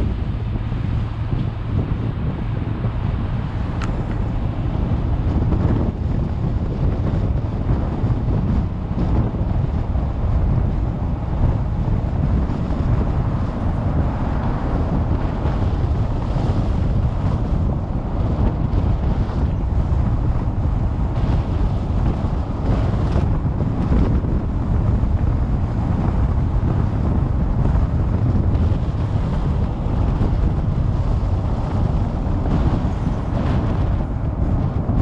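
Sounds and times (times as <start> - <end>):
car road and wind noise: 0.0 - 35.0.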